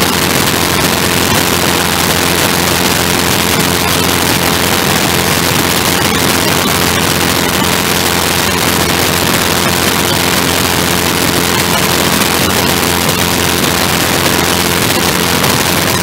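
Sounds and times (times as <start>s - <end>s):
craft engine running: 0.0s - 16.0s.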